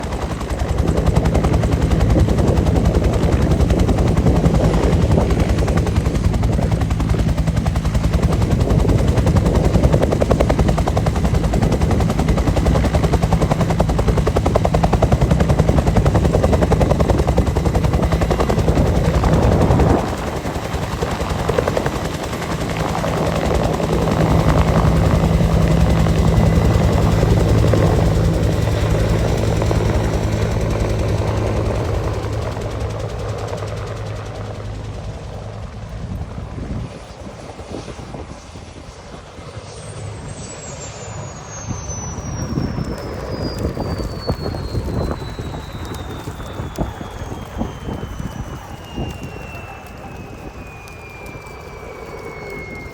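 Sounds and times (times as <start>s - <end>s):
helicopter rotor beating: 0.0s - 52.9s.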